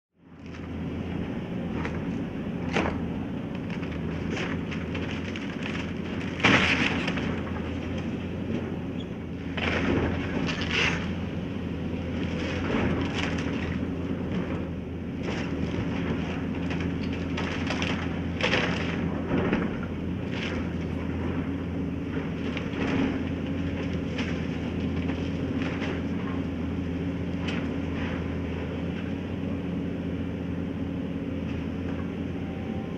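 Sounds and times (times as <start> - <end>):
heavy diesel machinery running: 0.2 - 32.9.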